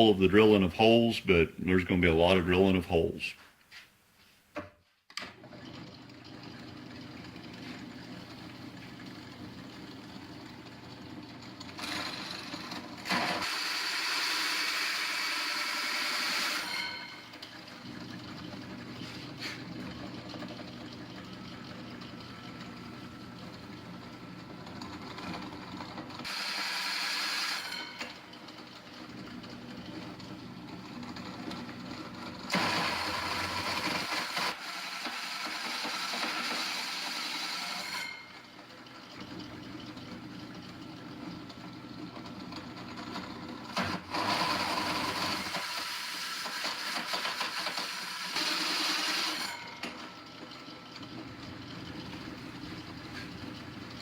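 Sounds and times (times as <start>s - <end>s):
drill press motor running: 5.4s - 54.0s.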